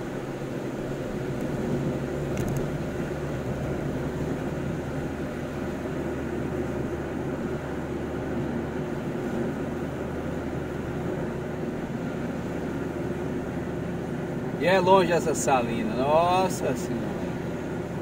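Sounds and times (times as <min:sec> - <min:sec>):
low engine hum: 0:00.0 - 0:18.0
tyre and road noise: 0:00.0 - 0:18.0.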